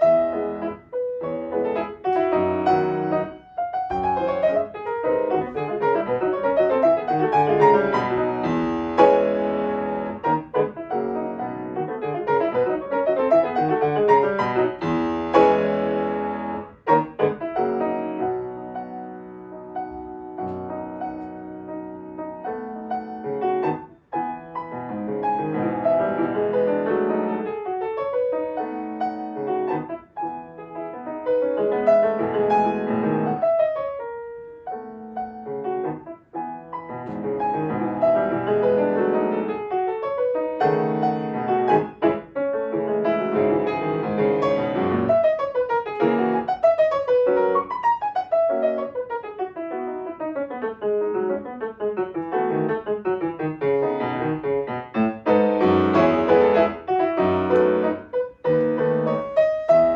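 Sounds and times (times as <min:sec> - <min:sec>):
solo piano classical piece: 0:00.0 - 0:59.9.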